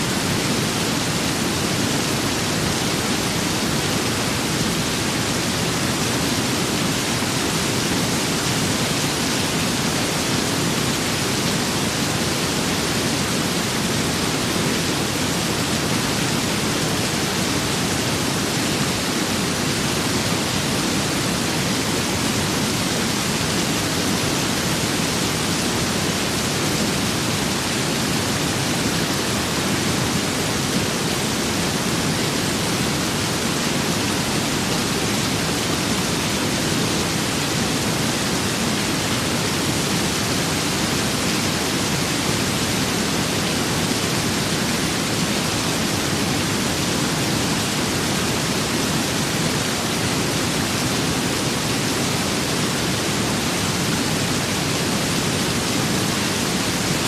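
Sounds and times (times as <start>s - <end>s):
steady rain with wind: 0.0s - 57.0s.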